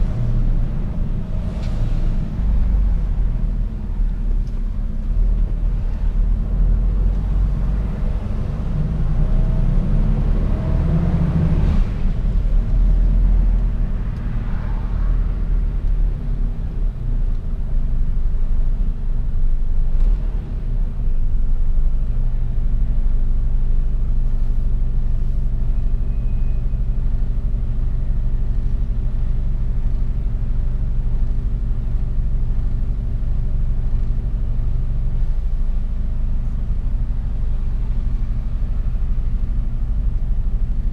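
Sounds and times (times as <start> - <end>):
road noise: 0.0 - 40.9
truck diesel engine: 0.0 - 40.9.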